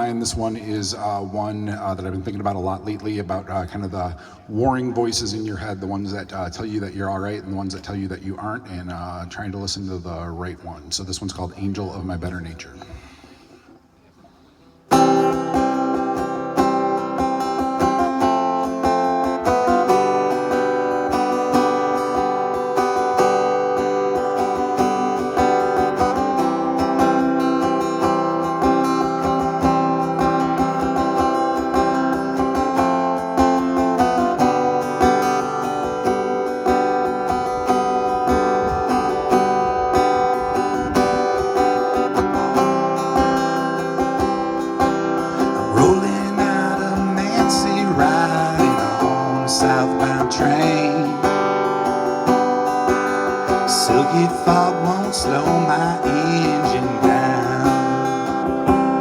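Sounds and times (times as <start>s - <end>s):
acoustic guitar strummed: 0.0s - 7.9s, 12.6s - 59.0s.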